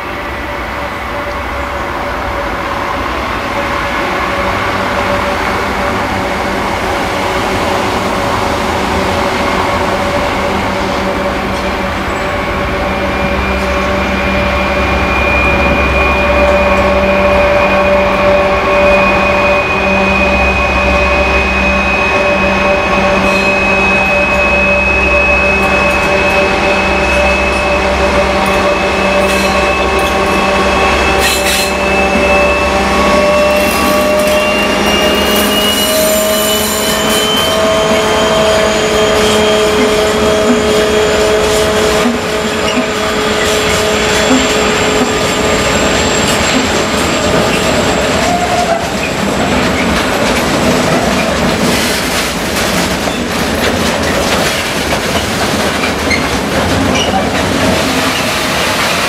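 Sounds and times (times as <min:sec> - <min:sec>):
diesel locomotive running under load: 0:00.0 - 0:59.0
train wheel clicks and squeals: 0:08.3 - 0:59.0.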